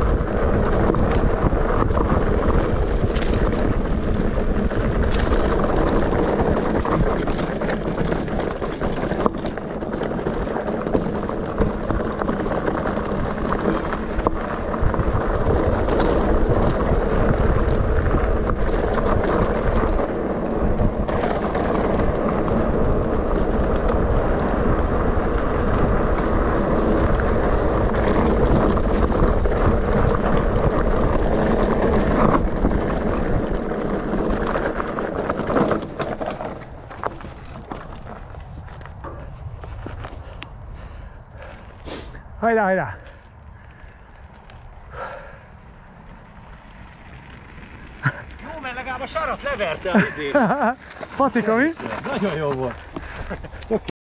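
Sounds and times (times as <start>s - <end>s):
bike rattling clicks and knocks: 0.0s - 41.8s, 42.4s - 53.9s
bike tyres rolling on gravel: 0.0s - 53.9s
wind buffeting microphone: 0.0s - 53.9s.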